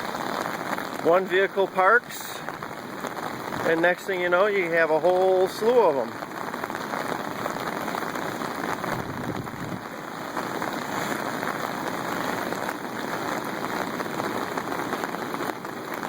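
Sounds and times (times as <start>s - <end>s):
water rushing hiss: 0.0s - 16.0s.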